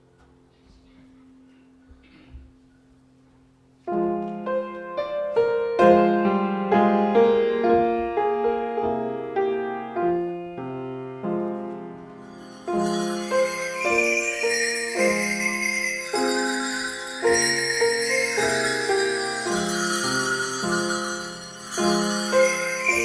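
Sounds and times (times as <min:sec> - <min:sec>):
piano playing notes and chords: 0:03.9 - 0:23.0.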